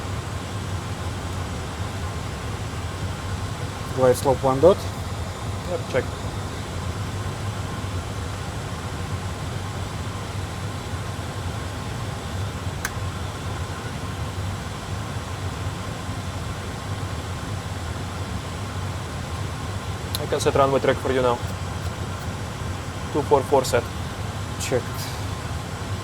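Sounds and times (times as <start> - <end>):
cockpit rumble and hiss: 0.0 - 26.0.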